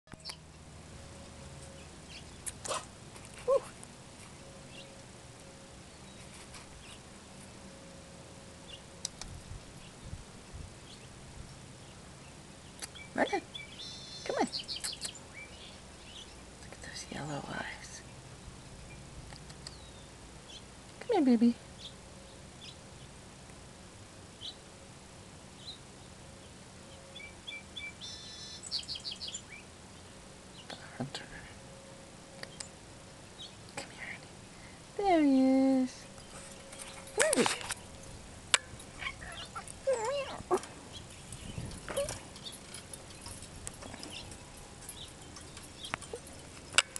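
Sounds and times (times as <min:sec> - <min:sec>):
songbirds chirping: 0:00.1 - 0:46.9.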